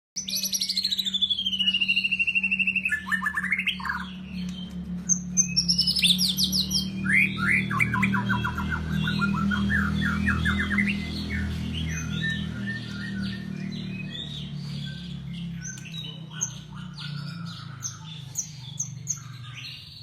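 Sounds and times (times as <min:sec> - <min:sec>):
bird singing fast trills: 0:00.2 - 0:20.0
steady low hum: 0:00.2 - 0:20.0.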